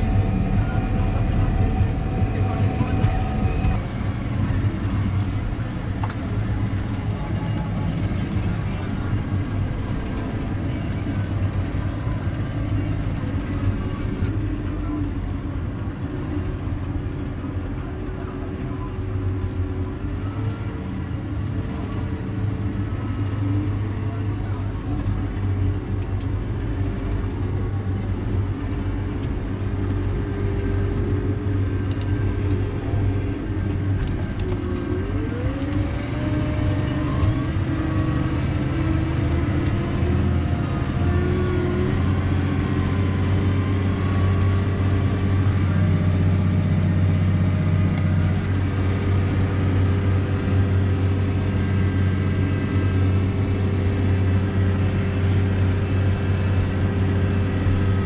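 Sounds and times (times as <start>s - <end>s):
rising whine: 0.0s - 58.0s
tractor engine under load: 0.0s - 58.0s.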